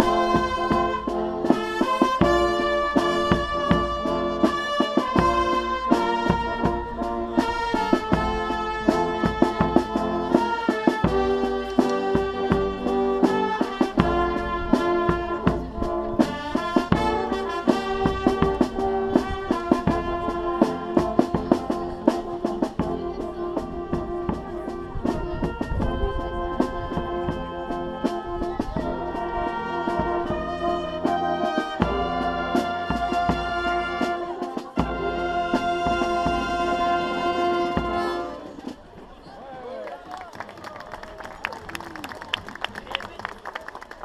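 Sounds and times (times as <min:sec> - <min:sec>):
bass drum beat: 0:00.0 - 0:37.2
brass band playing chords: 0:00.0 - 0:39.0.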